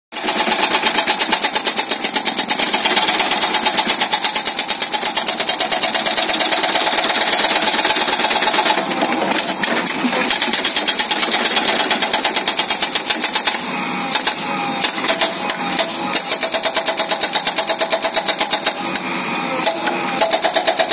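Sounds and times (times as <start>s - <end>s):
hydraulic breaker hammering ground: 0.1s - 20.9s.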